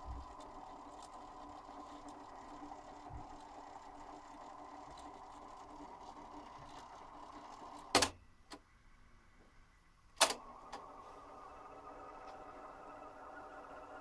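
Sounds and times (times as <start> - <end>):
cassette tape transport running: 0.0 - 8.7, 10.2 - 14.0.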